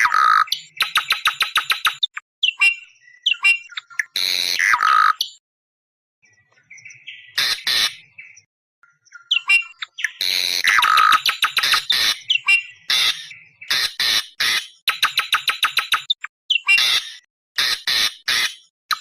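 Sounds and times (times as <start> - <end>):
harsh bird squawks and chatter: 0.0 - 5.4, 6.3 - 19.0.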